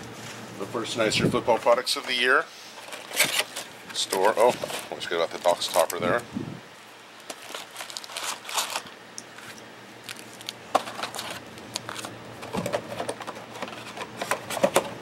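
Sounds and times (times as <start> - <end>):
foil card packs crinkling: 1.6 - 6.2, 7.1 - 15.0.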